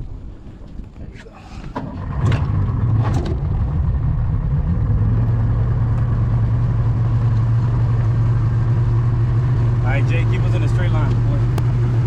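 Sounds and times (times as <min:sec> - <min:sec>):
boat motor droning: 0:01.5 - 0:12.0.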